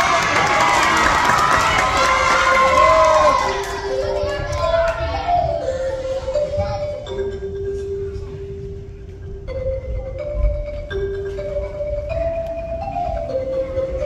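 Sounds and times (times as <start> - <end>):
marimba melody: 1.9 - 14.0.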